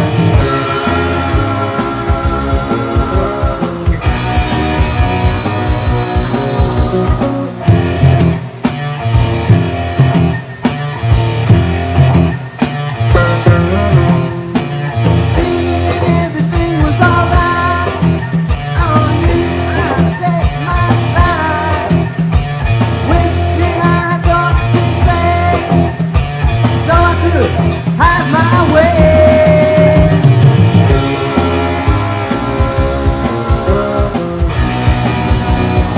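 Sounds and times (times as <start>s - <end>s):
bass guitar: 0.0s - 35.9s
drums: 0.0s - 35.9s
lead guitar with bent notes: 0.0s - 35.9s.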